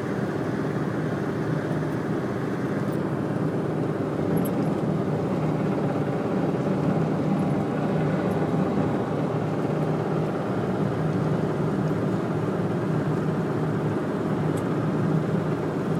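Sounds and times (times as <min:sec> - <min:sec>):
freight train rumbling: 0:00.0 - 0:15.9.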